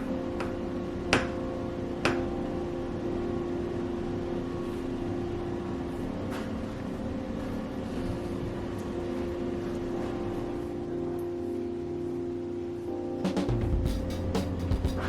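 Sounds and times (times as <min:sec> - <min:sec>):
low hum with tones: 0:00.0 - 0:15.0.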